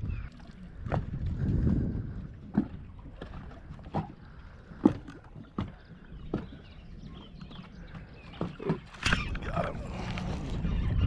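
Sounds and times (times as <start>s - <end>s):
waves slapping boat hull: 0.0s - 11.0s
wind rumble on microphone: 0.0s - 11.0s.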